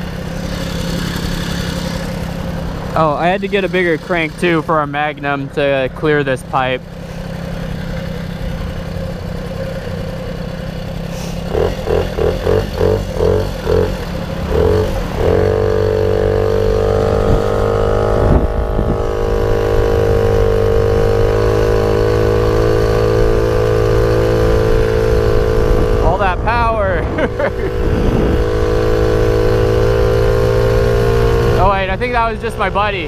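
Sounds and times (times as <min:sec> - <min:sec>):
moped two-stroke engine: 0:00.0 - 0:33.0.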